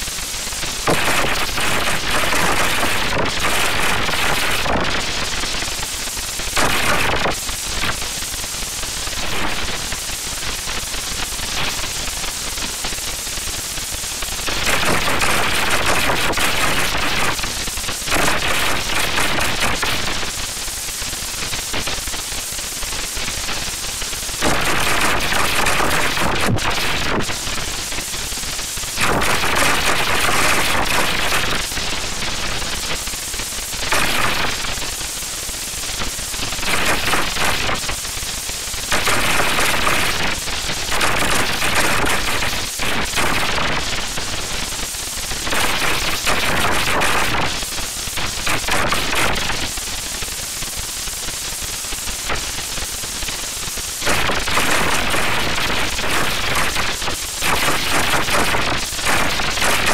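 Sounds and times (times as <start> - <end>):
harsh distorted crackling noise: 0.0 - 59.9.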